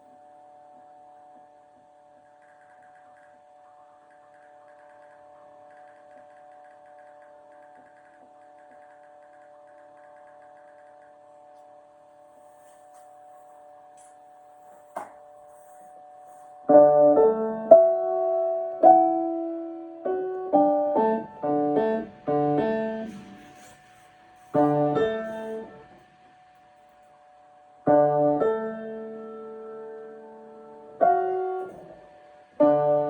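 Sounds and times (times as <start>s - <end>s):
piano chords and melody: 0.0s - 33.0s.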